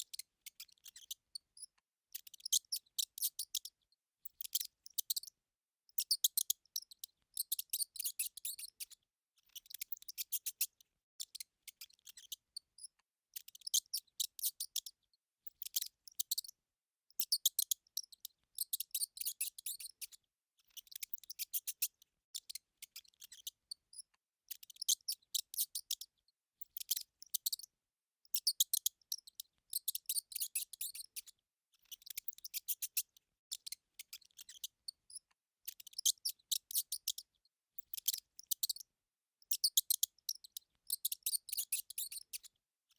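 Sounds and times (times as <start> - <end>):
mouse chirping: 0.0 - 5.3, 6.0 - 16.5, 17.1 - 27.7, 28.3 - 38.8, 39.4 - 42.5.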